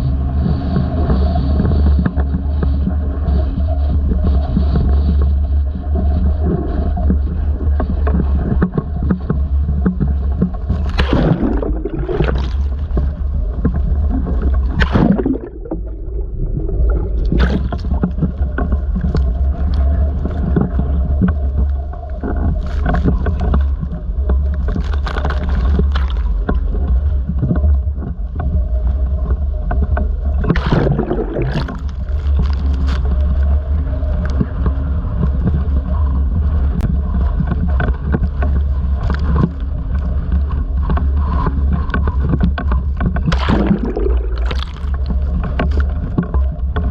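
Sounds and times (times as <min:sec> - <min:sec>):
strong wind buffeting microphone: 0:00.0 - 0:46.9
waves breaking and surging: 0:00.0 - 0:46.9.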